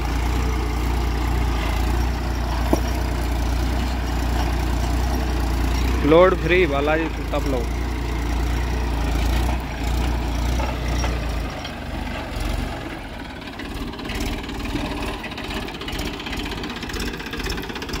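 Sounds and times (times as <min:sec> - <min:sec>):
tractor diesel engine rumbling: 0:00.0 - 0:18.0.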